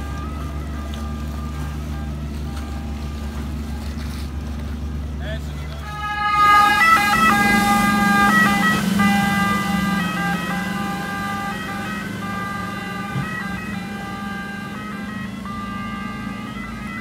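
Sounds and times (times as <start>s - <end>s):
two-tone siren: 0.0s - 4.7s, 5.8s - 17.0s.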